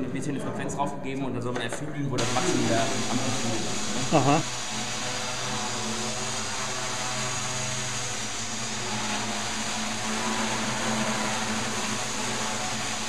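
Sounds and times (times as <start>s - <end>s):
quadcopter motors droning: 2.2s - 13.0s.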